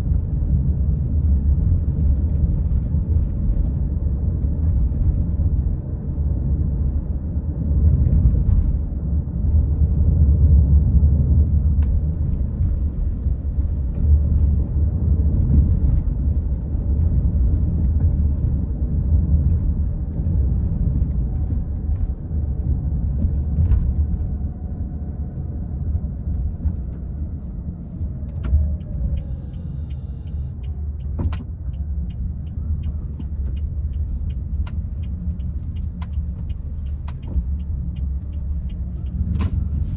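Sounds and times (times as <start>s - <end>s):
car driving: 0.0s - 39.9s.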